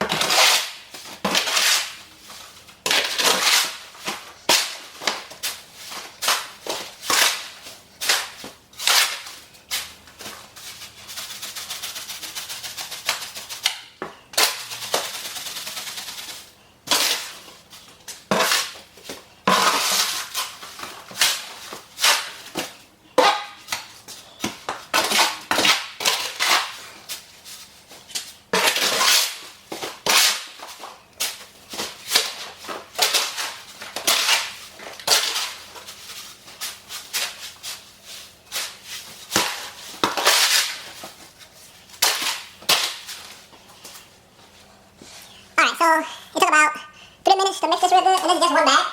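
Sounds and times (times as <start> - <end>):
tool scraping mortar mix: 0.0 - 13.8, 14.4 - 44.0.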